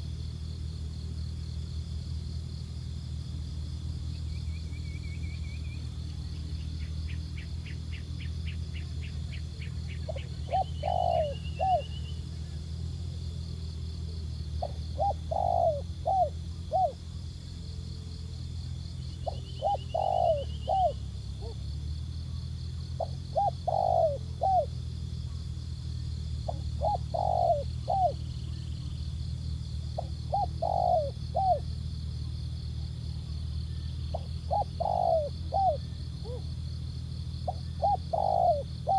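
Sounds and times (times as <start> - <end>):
doves cooing: 5.8 - 38.9.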